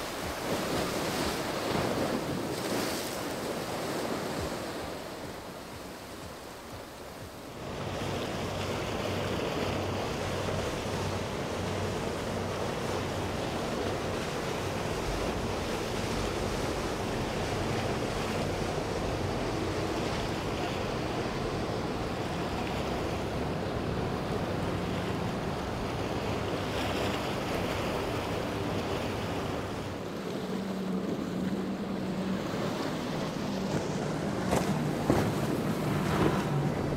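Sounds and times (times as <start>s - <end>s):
boat engine hum: 0.0s - 36.9s
water wash against hull: 0.0s - 36.9s.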